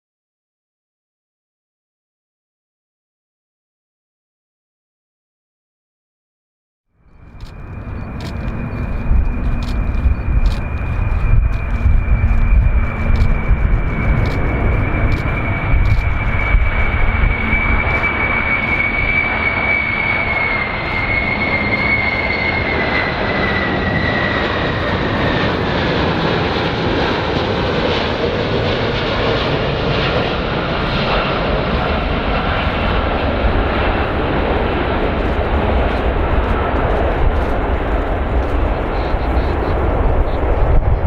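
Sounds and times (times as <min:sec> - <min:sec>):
airplane engines roaring and whining: 0:07.0 - 0:41.0.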